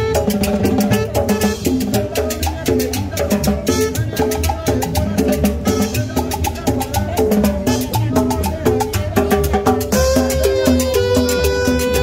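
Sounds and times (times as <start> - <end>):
congas and timbales: 0.0 - 12.0
salsa band playing: 0.0 - 12.0.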